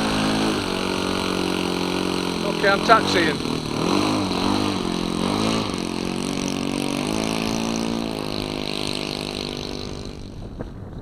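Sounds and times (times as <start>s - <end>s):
model plane engine running: 0.0s - 10.6s.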